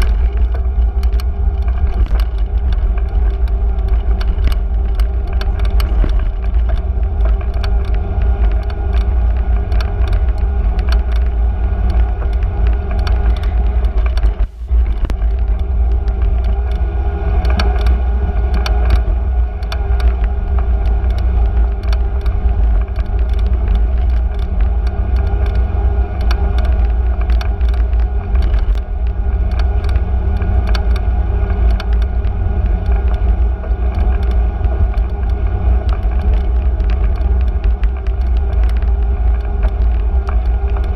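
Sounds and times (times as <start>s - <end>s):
small rattling clicks: 0.0s - 16.8s, 17.4s - 40.9s
wind and road rumble: 0.0s - 40.9s.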